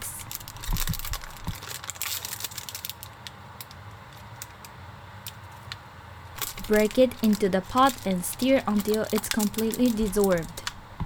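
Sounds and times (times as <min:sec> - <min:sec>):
packaging crinkling: 0:00.0 - 0:04.7, 0:06.4 - 0:10.8.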